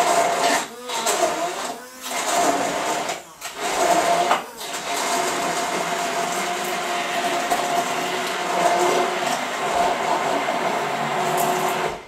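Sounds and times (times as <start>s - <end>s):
stick blender motor whine: 0.0s - 12.0s.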